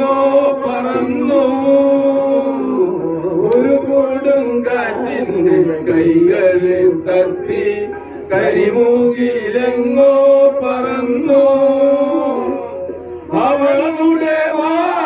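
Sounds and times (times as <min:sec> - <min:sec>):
men singing together: 0:00.0 - 0:15.0.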